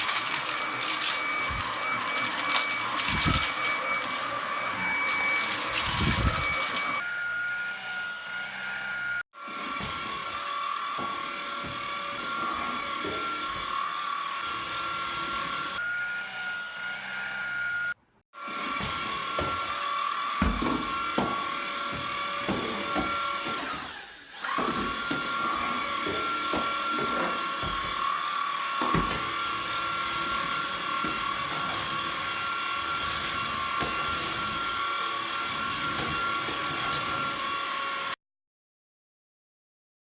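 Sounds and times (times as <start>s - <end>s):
stick vacuum whining: 0.0s - 38.2s.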